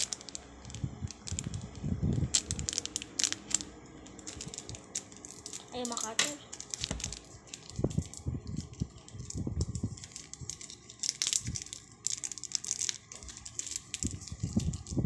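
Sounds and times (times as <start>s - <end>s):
plastic packet crinkling: 0.0s - 15.0s.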